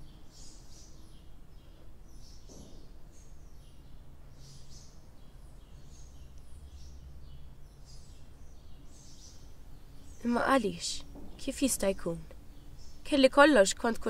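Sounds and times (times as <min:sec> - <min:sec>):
low background hum: 0:00.0 - 0:14.0
small birds chirping: 0:00.0 - 0:14.0.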